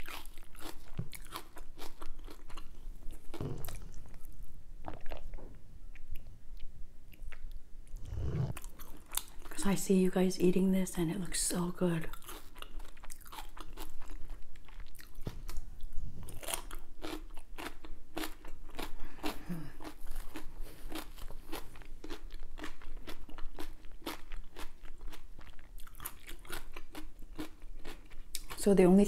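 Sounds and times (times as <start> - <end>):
person chewing crisp food: 0.0 - 9.6, 12.1 - 28.6.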